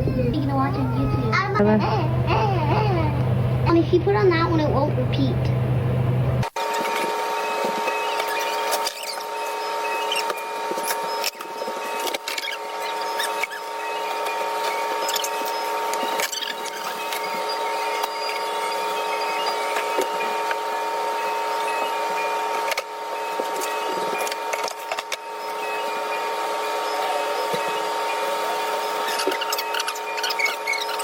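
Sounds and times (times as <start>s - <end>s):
small machine whining: 0.0s - 31.0s.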